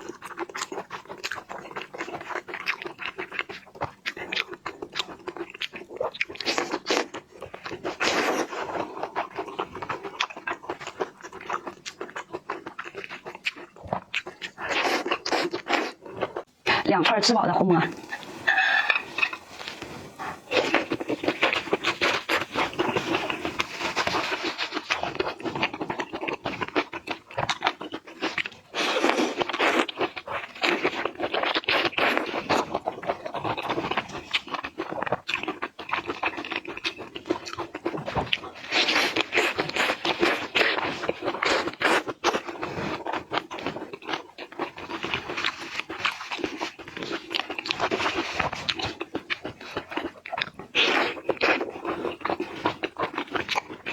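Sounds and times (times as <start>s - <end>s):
crunching and chewing seafood: 0.0s - 16.8s, 17.9s - 53.9s.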